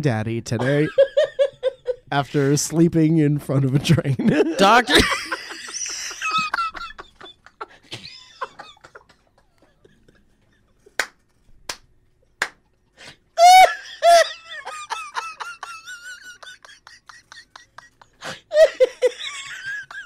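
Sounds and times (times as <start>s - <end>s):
men laughing: 0.6s - 2.8s, 3.5s - 11.0s, 13.4s - 20.0s.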